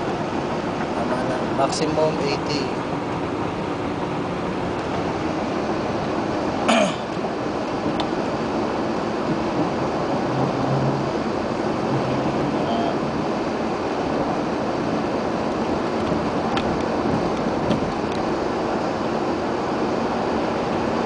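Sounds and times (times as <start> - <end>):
road tyre and wind noise in car: 0.0 - 21.0.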